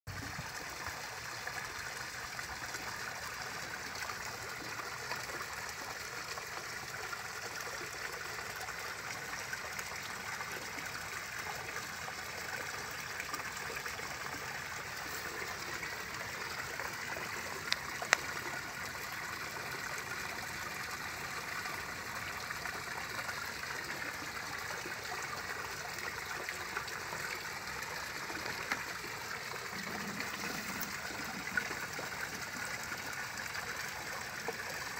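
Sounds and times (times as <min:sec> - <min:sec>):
water trickling into pond: 0:00.1 - 0:34.9.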